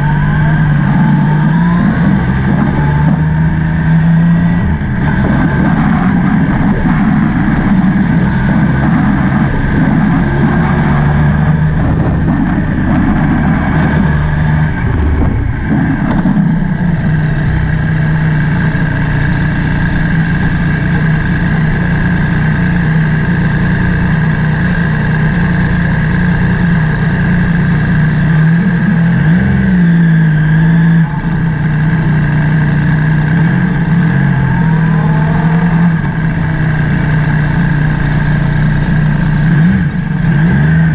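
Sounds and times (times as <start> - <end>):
motorbike engine running: 0.0 - 40.9
rough low rumble: 0.0 - 40.9.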